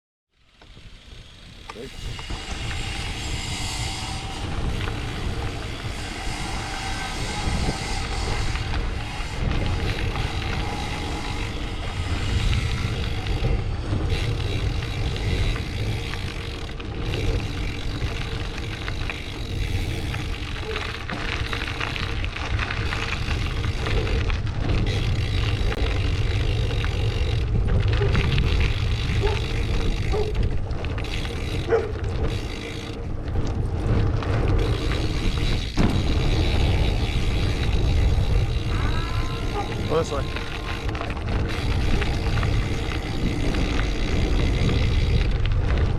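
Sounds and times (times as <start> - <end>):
wind rumble on microphone: 0.5 - 45.9.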